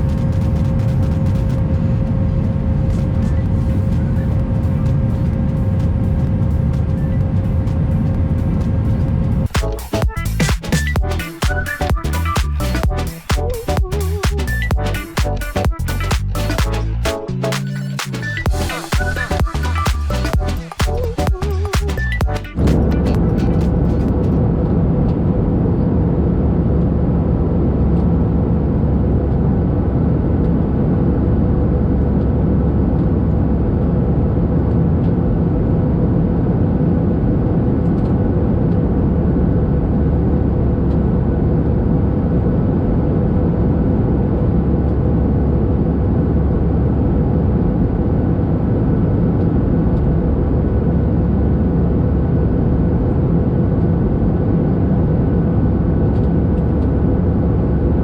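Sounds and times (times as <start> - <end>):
jet engine cabin noise: 0.0 - 58.0.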